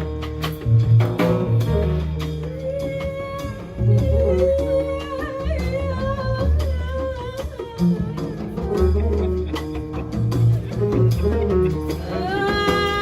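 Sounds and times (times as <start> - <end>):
walking double bass: 0.0 - 13.0.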